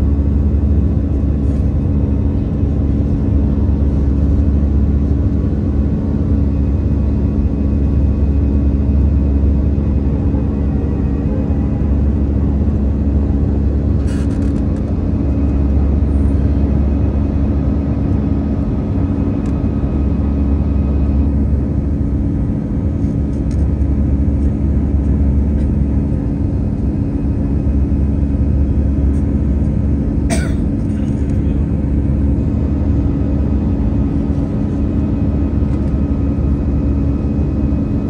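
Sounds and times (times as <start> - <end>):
jet engine drone in cabin: 0.0 - 38.0.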